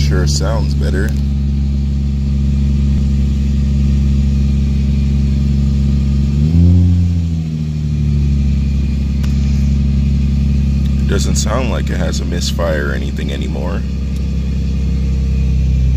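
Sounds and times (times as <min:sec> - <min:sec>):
car engine idling: 0:00.0 - 0:15.9
engine revving: 0:00.0 - 0:15.9.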